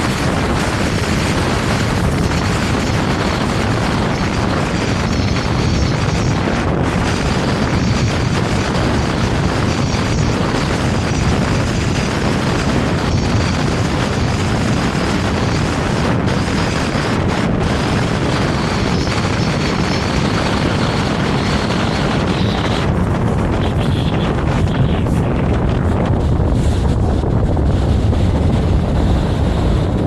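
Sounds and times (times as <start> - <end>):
tram running along track: 0.0 - 30.0.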